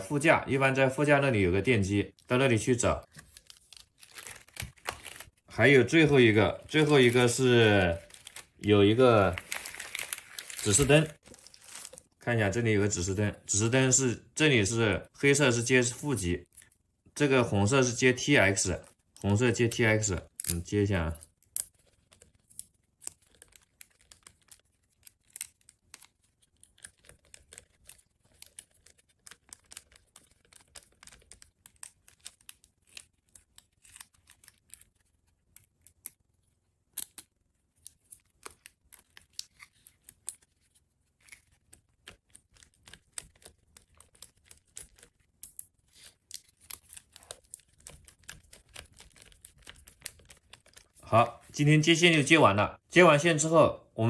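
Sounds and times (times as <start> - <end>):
faint clicks and rustling of wires: 2.1 - 12.4, 17.8 - 52.4.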